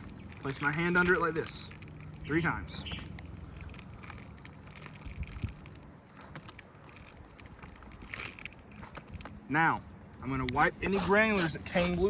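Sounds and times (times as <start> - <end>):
shingle crackling and scraping: 0.0 - 9.4, 10.2 - 12.0.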